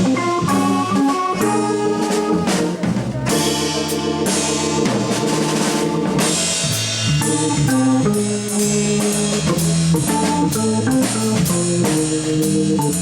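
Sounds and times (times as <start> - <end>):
drum kit cymbal strokes: 0.0 - 13.0
organ playing held notes: 0.0 - 13.0.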